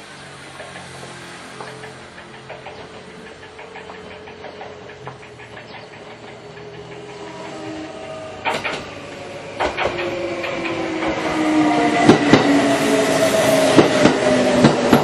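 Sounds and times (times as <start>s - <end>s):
train wheels clacking over rail joints: 0.1s - 15.0s.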